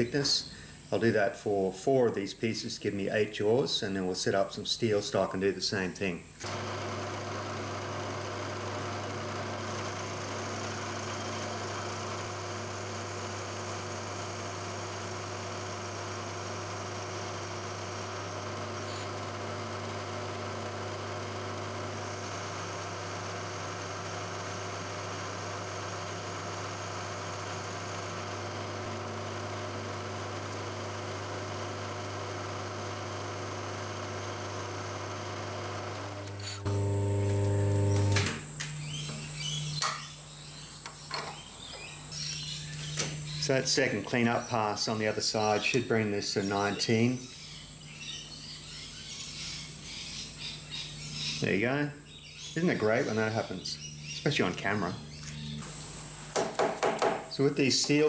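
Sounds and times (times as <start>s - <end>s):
end mill cutting brass hiss: 0.0s - 47.3s, 52.6s - 58.0s
milling machine motor hum: 6.3s - 58.0s.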